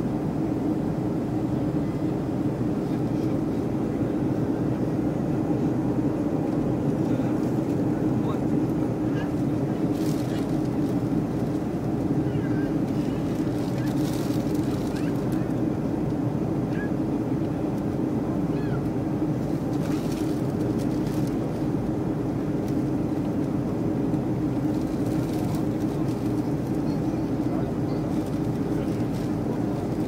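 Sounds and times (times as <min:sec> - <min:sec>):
jet engines and airflow: 0:00.0 - 0:30.0.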